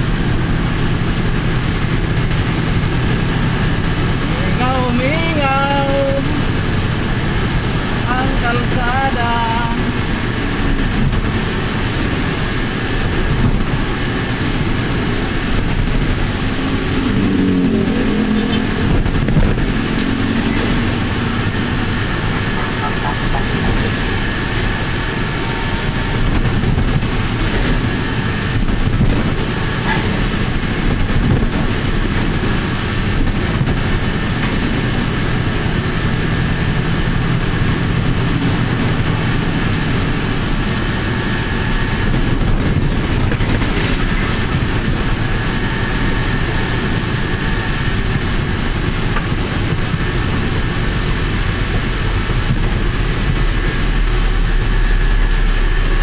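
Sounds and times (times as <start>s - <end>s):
low engine drone: 0.0s - 56.0s
wind and road noise: 0.0s - 56.0s.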